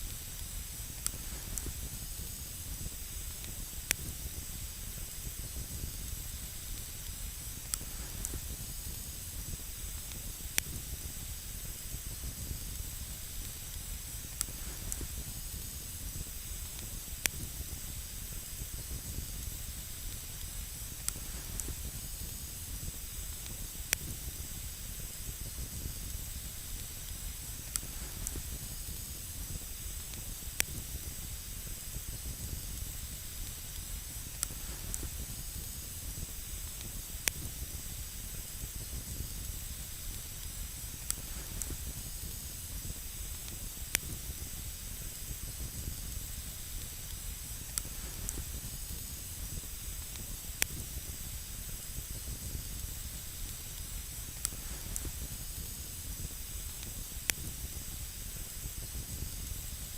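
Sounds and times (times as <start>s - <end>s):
fire crackling pops: 0.0s - 59.9s
hiss and rumble of flame: 0.0s - 59.9s.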